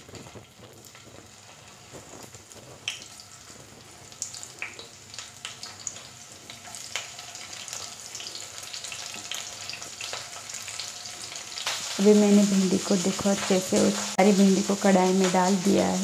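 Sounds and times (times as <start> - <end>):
oil sizzling and crackling: 0.0 - 16.0.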